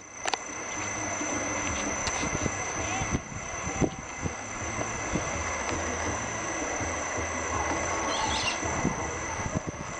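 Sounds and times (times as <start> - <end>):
high insect drone: 0.0 - 9.9.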